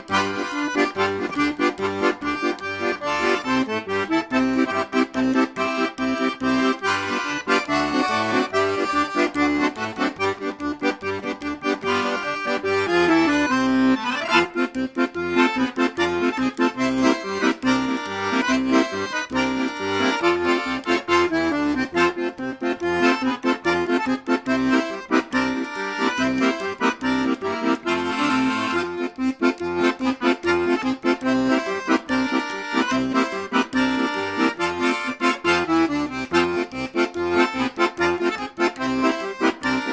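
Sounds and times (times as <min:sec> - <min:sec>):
accordion playing a tune: 0:00.0 - 0:39.9
rhythmic accompaniment: 0:00.0 - 0:39.9.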